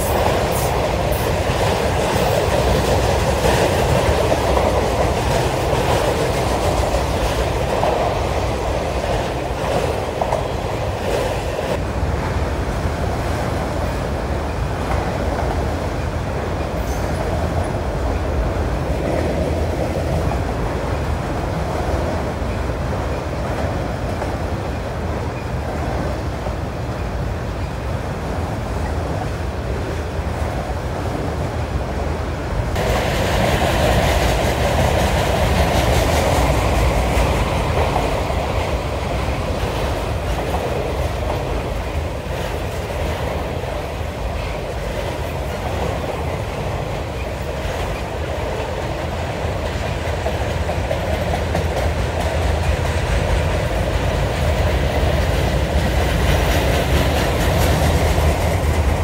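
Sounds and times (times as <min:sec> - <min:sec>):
wheels clacking over rail joints: 0:00.0 - 0:29.2, 0:32.5 - 0:59.0
freight train rumbling: 0:00.0 - 0:59.0.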